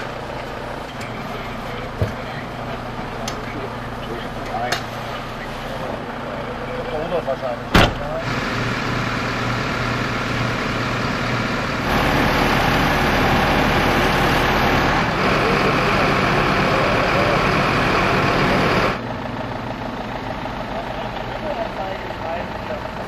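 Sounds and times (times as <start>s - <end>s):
truck engine driving hydraulic crane: 0.0s - 23.0s
vehicle engine idling: 0.0s - 23.0s.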